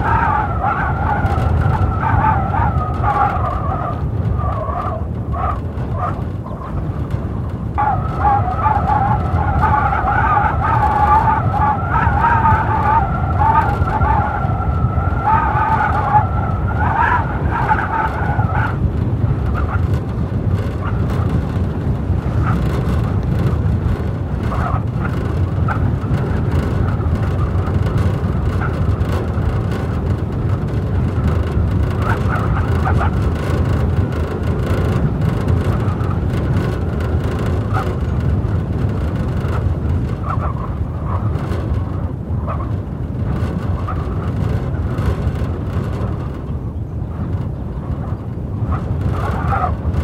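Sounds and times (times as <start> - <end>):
blizzard wind rumbling: 0.0 - 50.0
wavering wind howl: 0.0 - 50.0.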